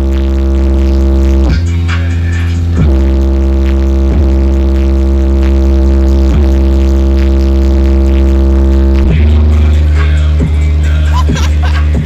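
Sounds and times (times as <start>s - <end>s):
loud music with heavy bass: 0.0s - 12.0s.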